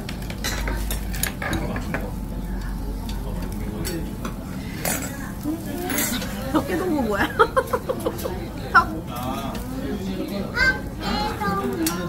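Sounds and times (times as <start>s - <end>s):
faint sizzle: 0.4s - 12.0s.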